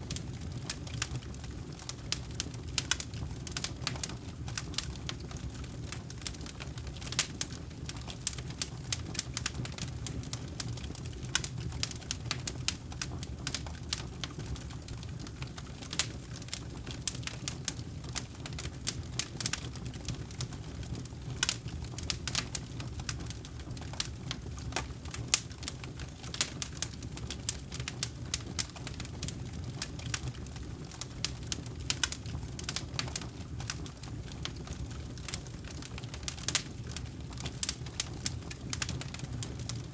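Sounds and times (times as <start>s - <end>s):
low burning fire: 0.0s - 39.9s
campfire snaps and pops: 0.1s - 39.9s.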